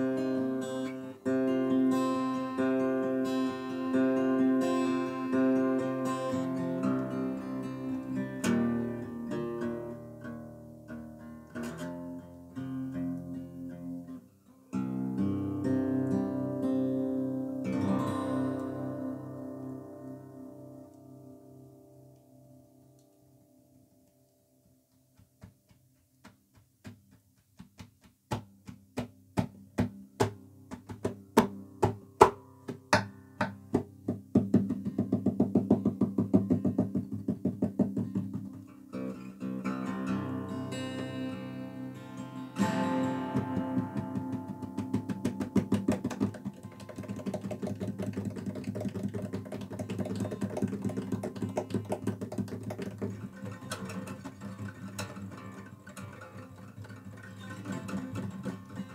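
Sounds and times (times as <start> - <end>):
acoustic guitar strumming: 0.0 - 23.5, 28.5 - 58.9.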